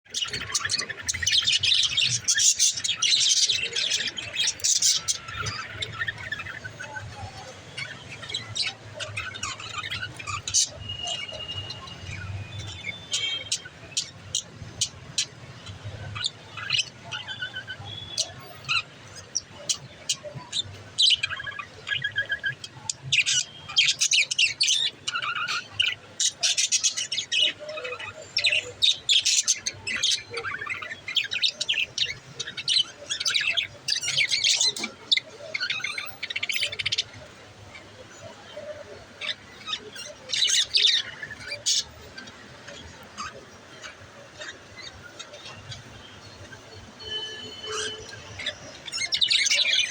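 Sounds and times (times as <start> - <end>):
budgerigars chirping: 0.1 - 49.9.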